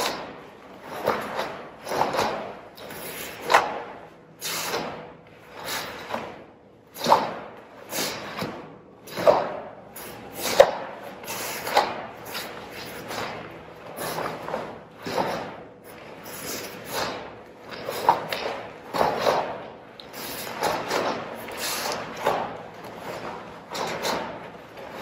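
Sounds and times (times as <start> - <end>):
bare feet stepping on floor: 0.0 - 25.0
uniform fabric swishing and snapping: 0.0 - 25.0.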